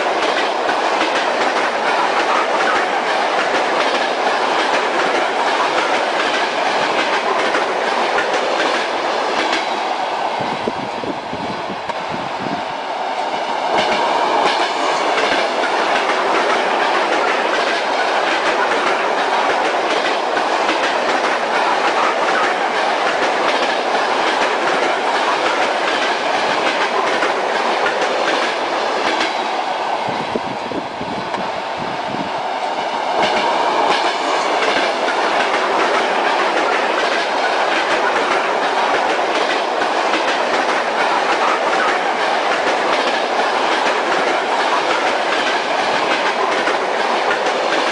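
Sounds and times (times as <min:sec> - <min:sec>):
train wheels clattering over joints: 0:00.0 - 0:09.8, 0:13.6 - 0:29.5, 0:33.0 - 0:47.9
moving train rumble: 0:00.0 - 0:47.9.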